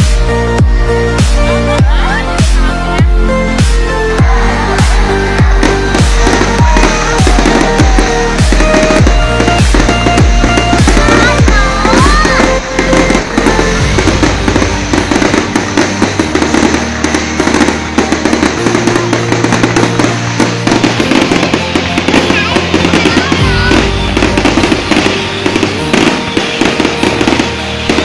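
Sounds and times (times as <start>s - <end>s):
fireworks crackling and banging: 0.0s - 28.0s
loud music with deep bass: 0.0s - 28.0s.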